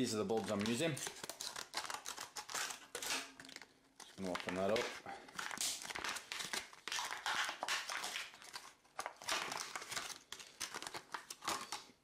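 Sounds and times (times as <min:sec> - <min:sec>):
plastic blister pack crinkling: 0:00.0 - 0:12.0.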